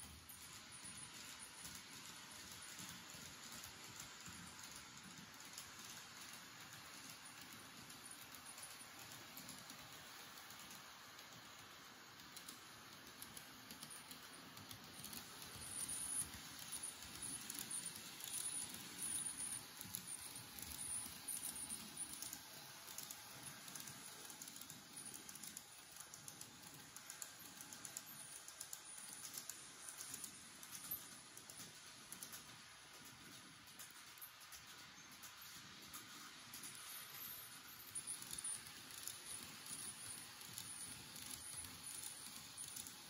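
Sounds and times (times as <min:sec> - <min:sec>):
model train wheels clicking: 0:00.0 - 0:43.0.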